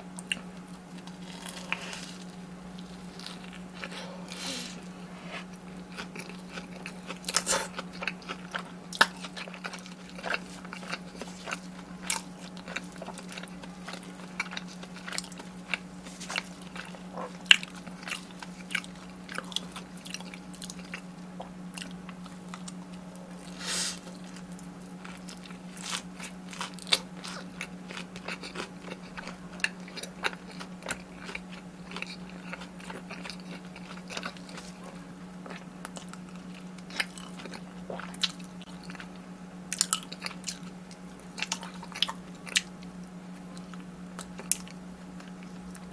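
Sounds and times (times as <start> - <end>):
crunchy bites and chewing: 0.0 - 45.9
steady low hum: 0.0 - 45.9.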